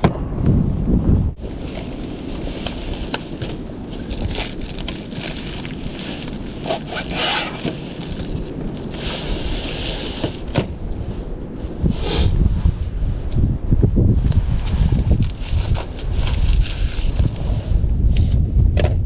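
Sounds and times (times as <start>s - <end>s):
blizzard wind buffeting microphone: 0.0s - 19.0s.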